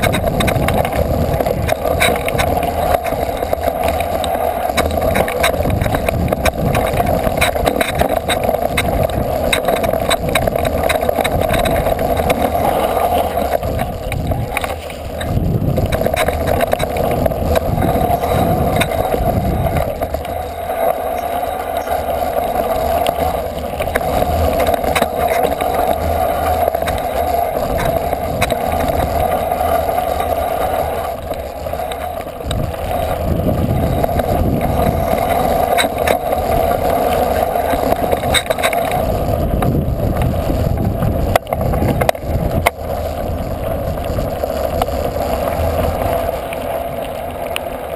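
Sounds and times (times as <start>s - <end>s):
off-road vehicle engine running: 0.0s - 47.9s.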